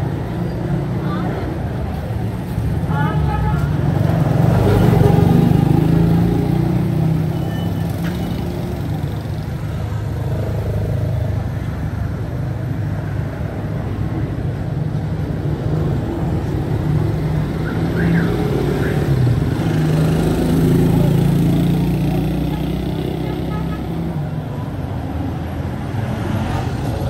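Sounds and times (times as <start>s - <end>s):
car and motorbike engines: 0.0s - 27.0s
road noise: 0.0s - 27.0s.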